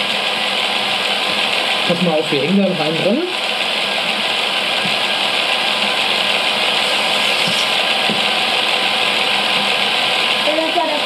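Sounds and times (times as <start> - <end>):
toy roller coaster motor whir: 0.0 - 11.0.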